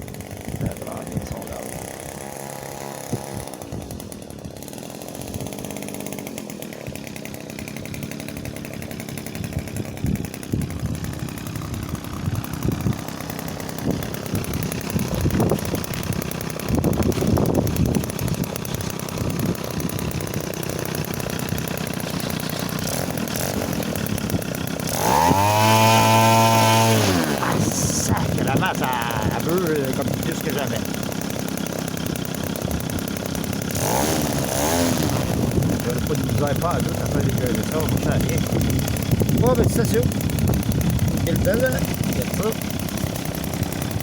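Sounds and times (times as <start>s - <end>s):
model airplane motor and propeller: 0.0s - 44.0s.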